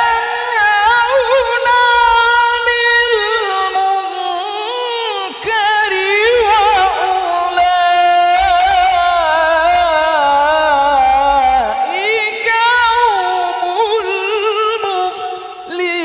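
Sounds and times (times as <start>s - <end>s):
man reciting in melodic chant: 0.0s - 16.0s.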